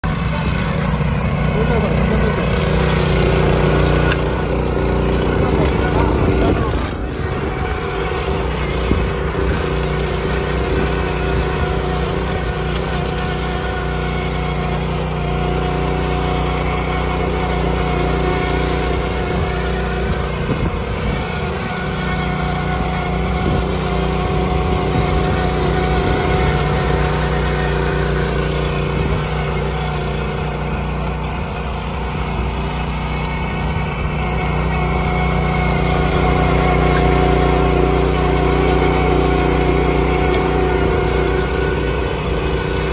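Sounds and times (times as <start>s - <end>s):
tiller engine running: 0.0s - 42.9s
tines churning dry soil: 0.0s - 42.9s.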